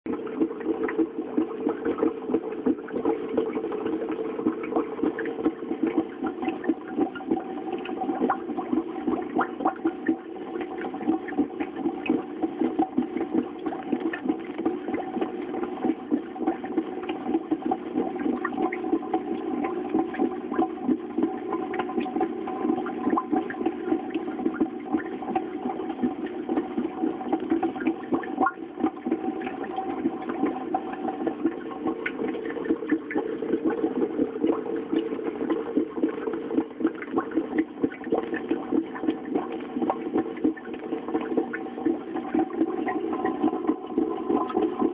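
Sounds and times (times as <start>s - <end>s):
water splashing and bubbling: 0.0s - 44.9s.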